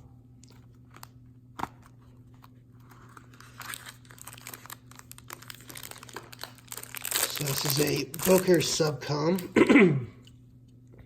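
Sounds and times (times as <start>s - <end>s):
packaging crinkling and rustling: 0.4s - 9.4s.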